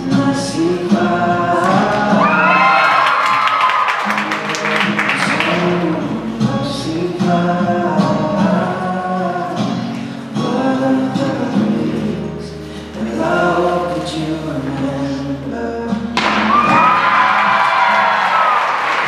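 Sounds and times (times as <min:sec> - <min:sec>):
choral music over loudspeakers: 0:00.0 - 0:19.0.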